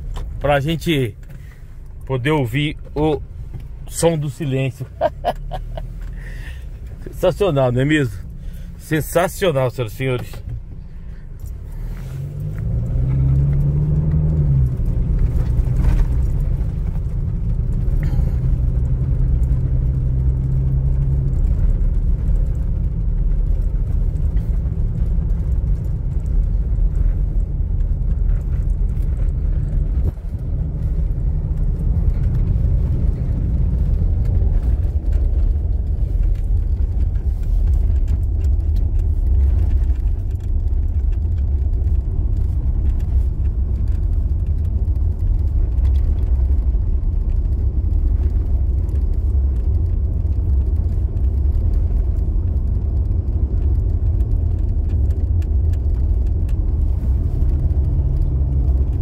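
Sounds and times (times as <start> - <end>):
tyres and engine rumbling: 0.0 - 59.0.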